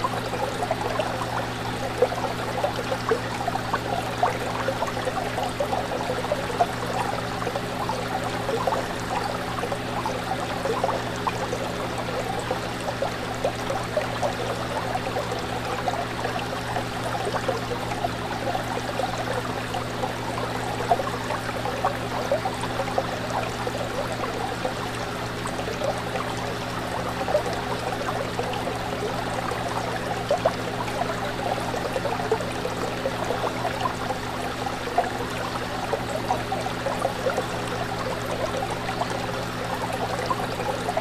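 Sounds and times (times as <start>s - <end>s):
aquarium water trickling and bubbling: 0.0s - 41.0s.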